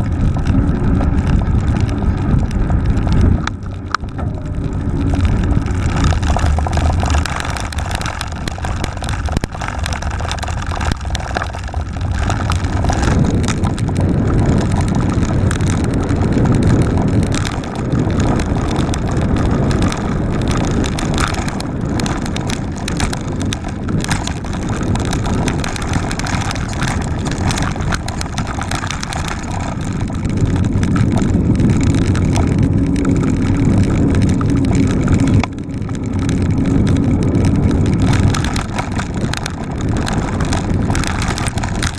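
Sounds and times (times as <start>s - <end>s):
bike rattling: 0.0s - 41.9s
bike tyre rumble: 0.0s - 41.9s
wind on microphone: 0.0s - 41.9s.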